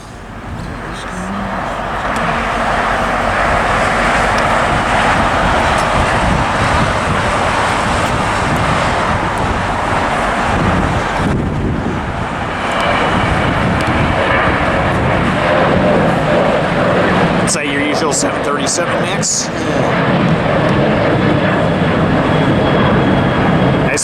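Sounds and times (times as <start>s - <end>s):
jet engines roaring on takeoff: 0.0s - 24.0s.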